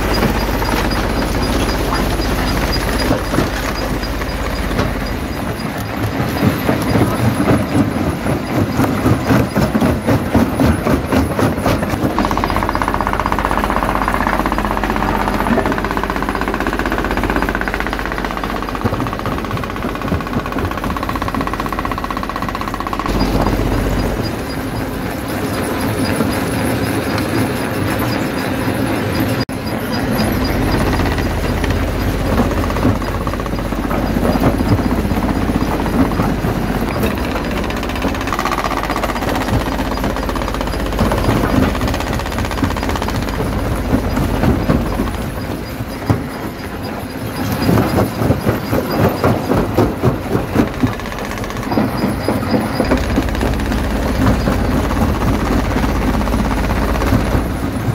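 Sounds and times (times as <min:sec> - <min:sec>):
rapid knocking: 0:00.0 - 0:28.0, 0:29.4 - 0:57.9.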